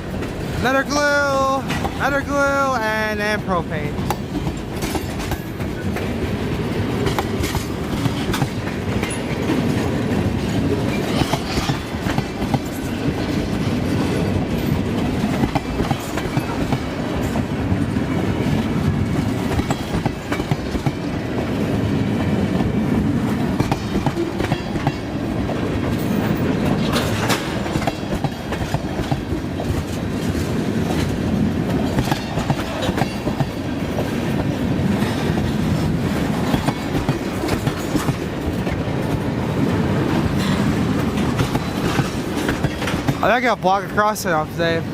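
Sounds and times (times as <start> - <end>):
freight train rumbling past: 0.0 - 44.9
wheels clicking over rail joints: 3.9 - 43.8.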